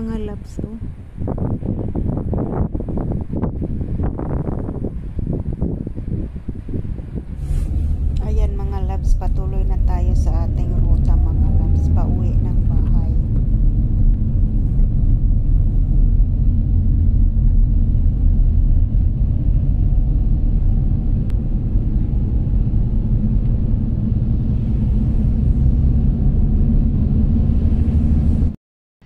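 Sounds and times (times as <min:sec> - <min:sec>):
car cabin road rumble: 0:00.0 - 0:28.6.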